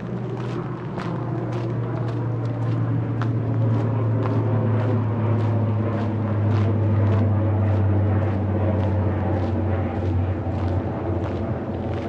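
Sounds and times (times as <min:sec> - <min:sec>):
footsteps ticking: 0:00.0 - 0:12.0
low engine drone: 0:00.0 - 0:12.0.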